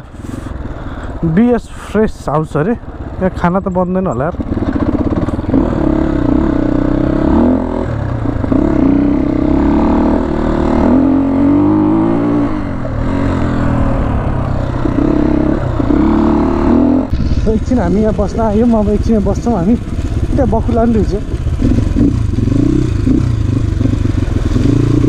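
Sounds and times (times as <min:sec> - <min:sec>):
motorcycle engine revving: 0:02.4 - 0:25.0.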